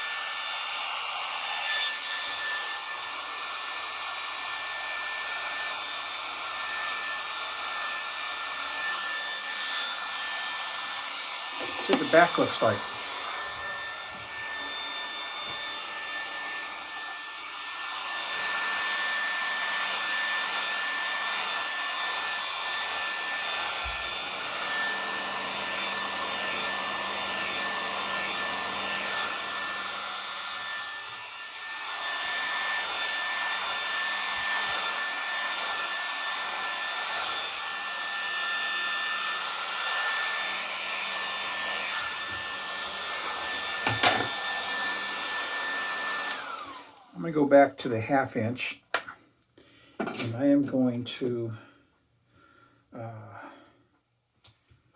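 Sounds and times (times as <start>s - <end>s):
vacuum hair clippers whirring: 0.0s - 47.3s.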